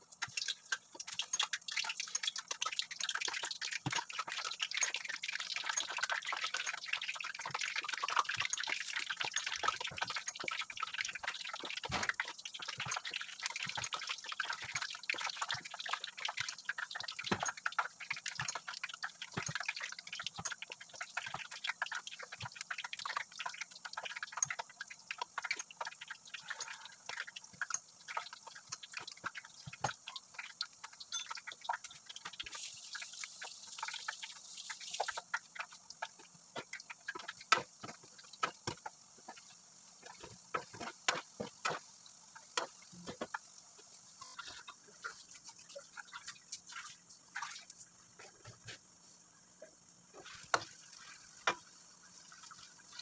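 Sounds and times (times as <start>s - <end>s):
dumplings deep-frying in oil: 0.0s - 53.0s.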